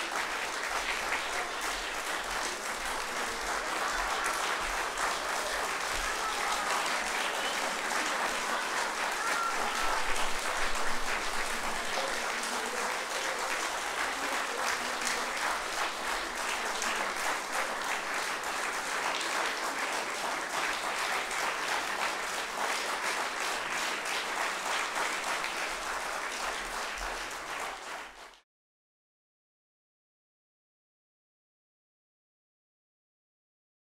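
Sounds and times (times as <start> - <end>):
audience applauding: 0.0 - 28.4.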